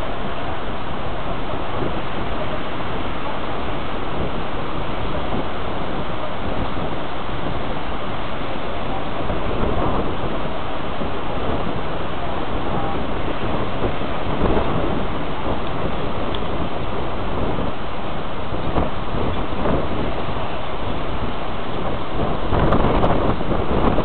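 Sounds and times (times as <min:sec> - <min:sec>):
beach surf: 0:00.0 - 0:24.0
wind buffeting microphone: 0:00.0 - 0:24.0.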